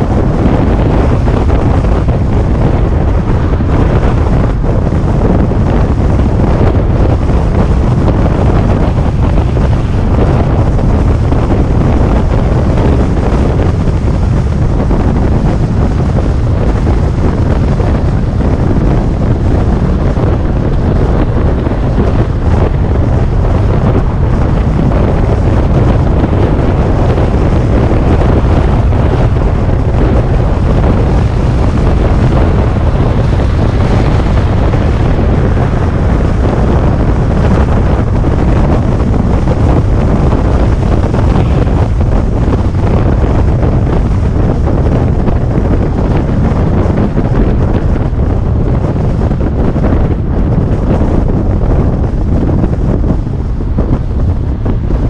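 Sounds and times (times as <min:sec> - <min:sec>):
car road and tyre noise: 0:00.0 - 0:55.0
wind buffeting microphone: 0:00.0 - 0:55.0.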